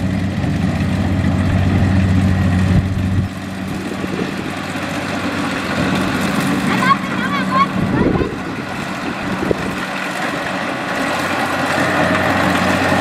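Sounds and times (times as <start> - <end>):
combine harvester diesel engine: 0.0 - 13.0.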